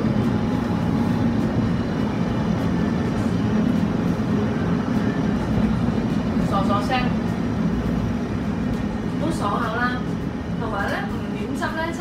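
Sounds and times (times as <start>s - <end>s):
steamer pot boiling and venting: 0.0s - 12.0s.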